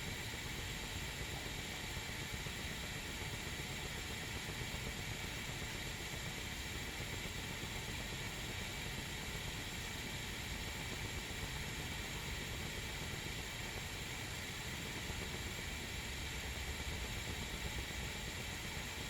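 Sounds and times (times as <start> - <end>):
kettle heating water hissing: 0.0 - 19.0.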